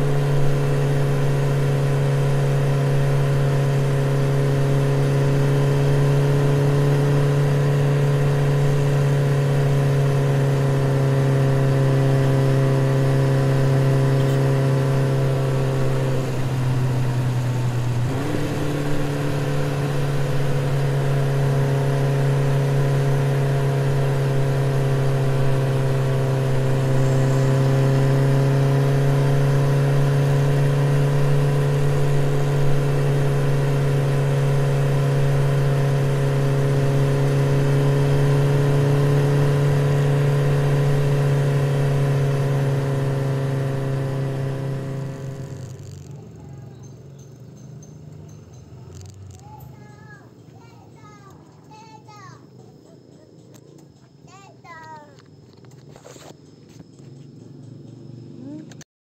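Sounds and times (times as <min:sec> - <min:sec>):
scooter engine droning: 0:00.0 - 0:58.9.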